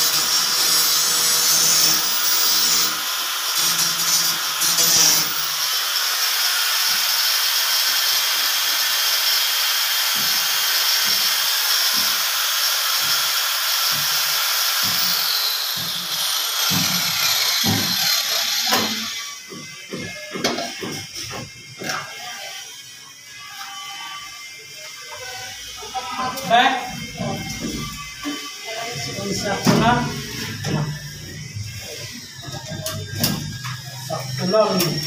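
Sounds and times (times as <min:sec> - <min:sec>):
power tool cutting a hole: 0:00.0 - 0:35.0.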